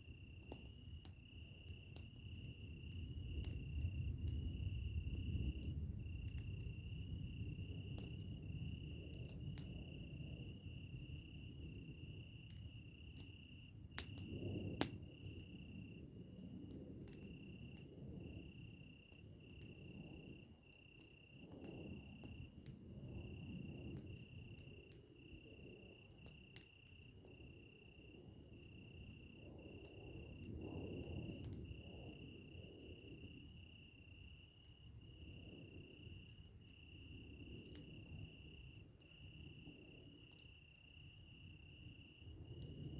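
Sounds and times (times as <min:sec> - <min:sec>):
campfire crackling and popping: 0:00.0 - 0:42.9
crickets trilling: 0:00.0 - 0:42.9
faint low rumble: 0:00.0 - 0:42.9.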